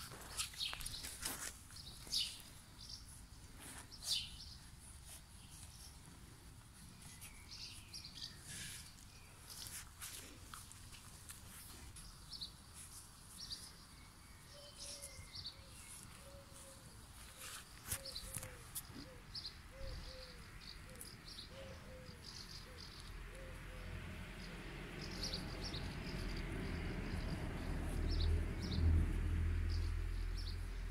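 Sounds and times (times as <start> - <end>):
small birds chirping: 0.2 - 30.9.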